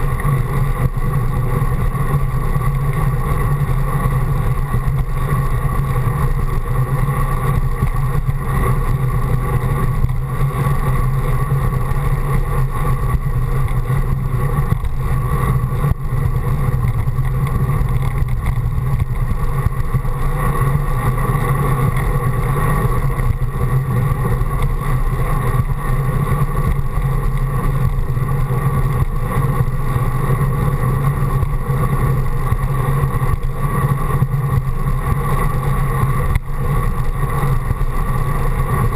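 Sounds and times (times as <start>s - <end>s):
bicycle tyre rumble on pavement: 0.0s - 38.9s
wind rush on microphone: 0.0s - 38.9s.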